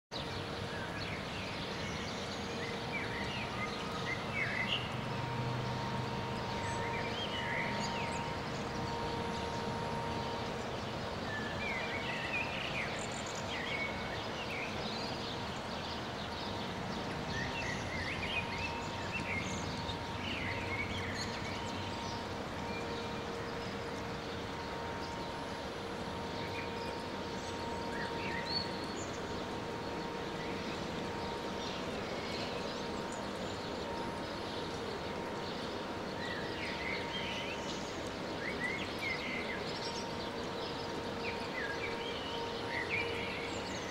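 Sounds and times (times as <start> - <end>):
faint constant hum: 0.1 - 43.9.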